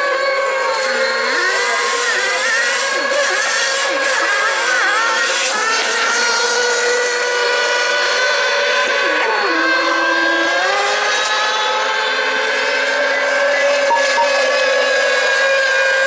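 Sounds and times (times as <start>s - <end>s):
model boat engines screaming: 0.0s - 16.0s.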